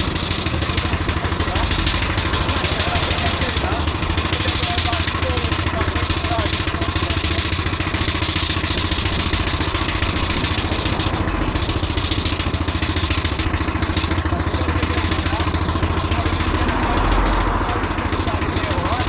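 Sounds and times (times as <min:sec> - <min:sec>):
steam engine exhaust beat: 0:00.0 - 0:19.0
wheels rumbling: 0:00.0 - 0:19.0.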